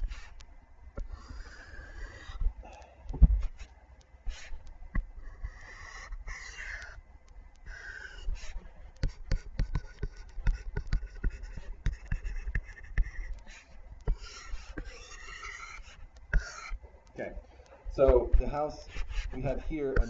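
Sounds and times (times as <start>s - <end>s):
stylus tapping and scratching on screen: 0.0s - 20.0s.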